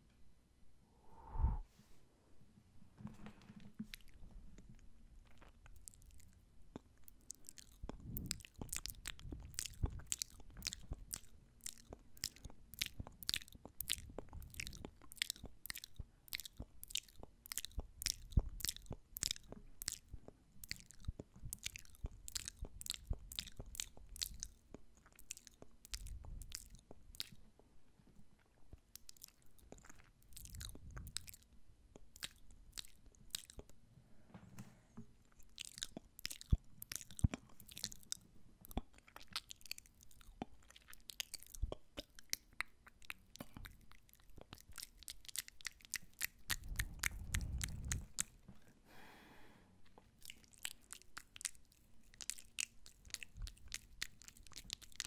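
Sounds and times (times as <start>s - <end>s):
wet mouth sounds: 3.8s - 27.5s, 28.4s - 33.8s, 35.2s - 48.7s, 50.0s - 55.0s.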